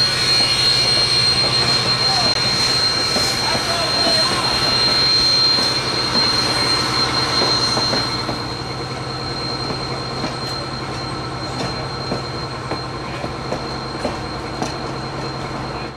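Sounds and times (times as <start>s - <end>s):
high squeal of running gear: 0.0s - 15.9s
steam train rolling past: 0.0s - 15.9s.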